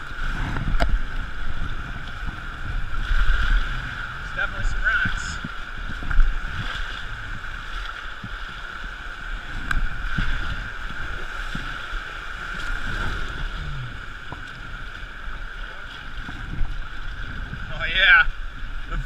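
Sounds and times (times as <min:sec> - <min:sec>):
river water rushing over rocks: 0:00.0 - 0:19.0
wind buffeting microphone: 0:00.0 - 0:19.0.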